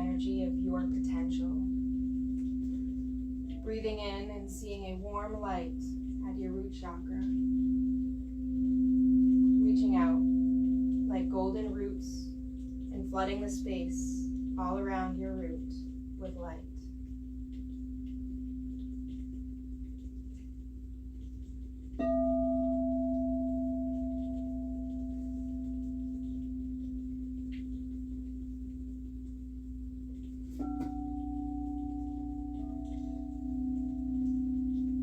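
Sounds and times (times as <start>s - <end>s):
singing bowl struck ringing: 0.0s - 19.6s, 22.0s - 35.0s
singing bowl low tone: 0.0s - 35.0s.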